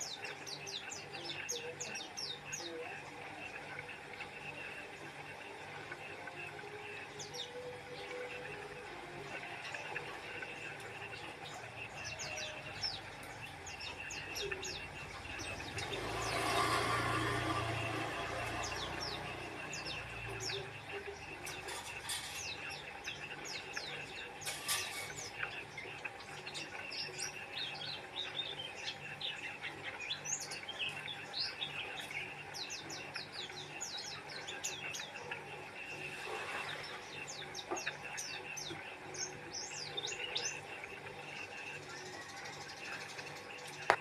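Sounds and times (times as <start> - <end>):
bird singing rapid chirps: 0.0 - 44.0.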